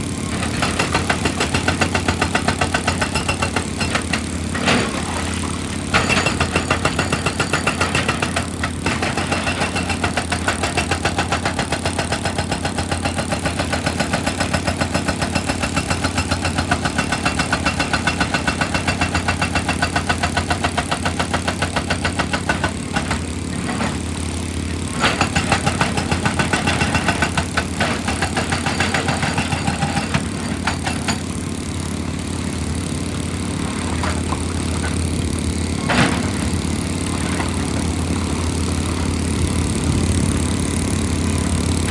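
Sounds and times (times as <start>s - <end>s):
diesel engine under load: 0.0s - 41.9s.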